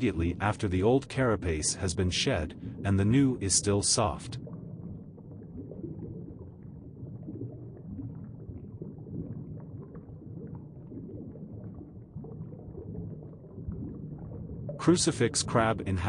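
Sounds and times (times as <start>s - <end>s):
muffled water bubbling: 0.0s - 16.0s.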